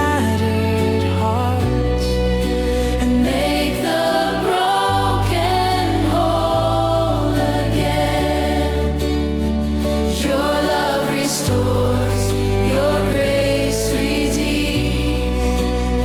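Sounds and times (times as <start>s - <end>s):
acoustic worship song: 0.0s - 16.0s
voices singing: 0.0s - 16.0s.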